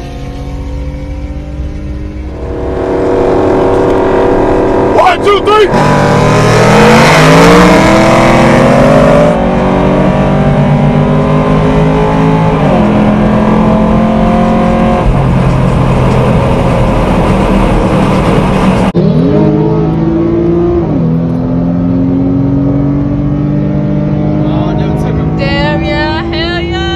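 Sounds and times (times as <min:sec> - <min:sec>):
car engine at full throttle: 0:00.0 - 0:26.9.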